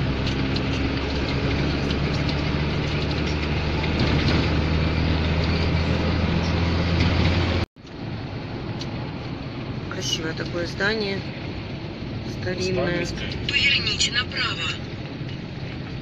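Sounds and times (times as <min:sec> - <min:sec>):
road noise: 0:00.0 - 0:16.0
van engine drone: 0:00.0 - 0:16.0.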